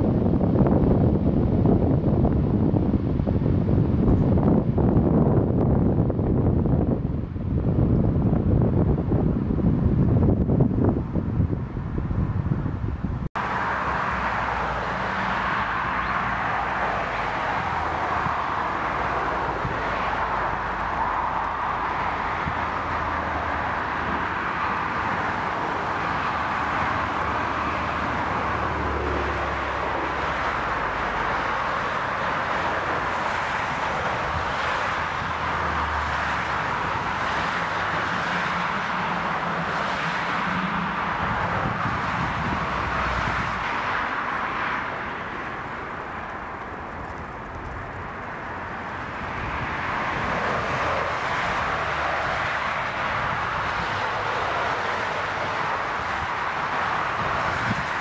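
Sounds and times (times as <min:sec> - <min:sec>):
airliner jet engines rushing: 0:00.0 - 0:58.0.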